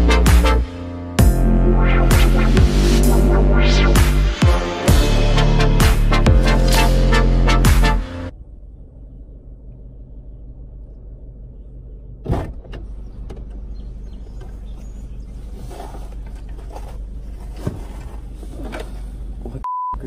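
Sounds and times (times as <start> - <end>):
car engine idling: 0.0 - 19.6.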